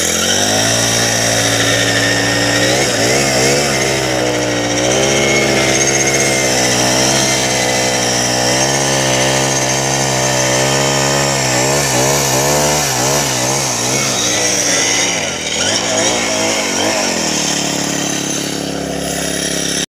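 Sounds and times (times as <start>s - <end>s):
string trimmer engine running: 0.0s - 19.9s.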